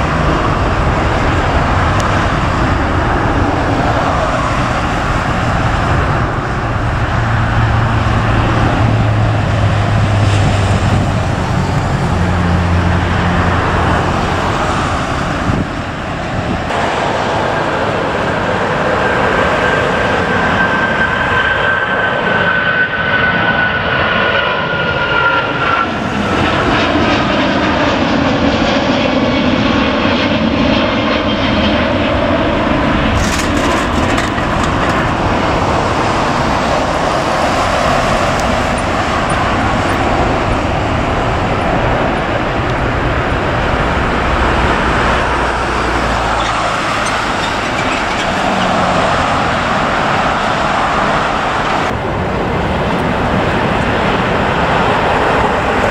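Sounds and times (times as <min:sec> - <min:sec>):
high engine whine: 0:00.0 - 0:55.9
jet engines rumbling: 0:00.0 - 0:55.9.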